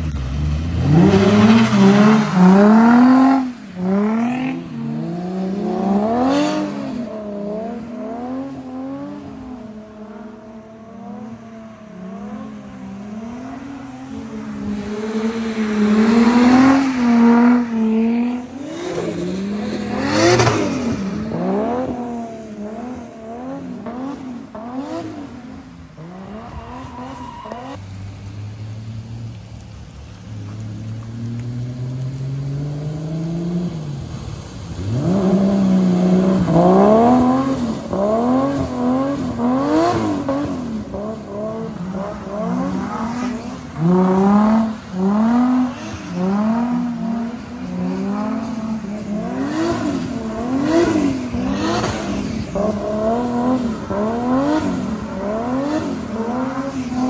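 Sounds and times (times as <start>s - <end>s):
car accelerating: 0.0s - 57.0s
car engine revving: 0.0s - 57.0s.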